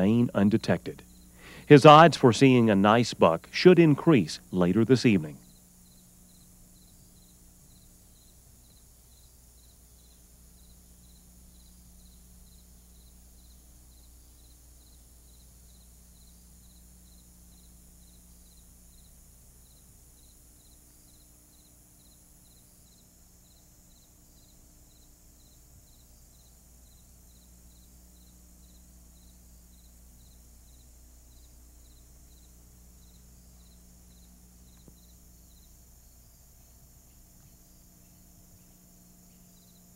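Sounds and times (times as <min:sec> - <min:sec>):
crickets chirping: 0:00.0 - 0:39.9
low hum and hiss: 0:00.0 - 0:39.9.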